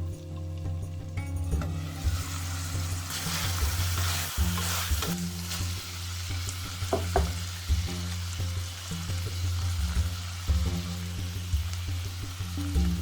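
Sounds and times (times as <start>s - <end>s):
soft background music: 0.0s - 13.0s
food sizzling in hot oil: 1.1s - 13.0s.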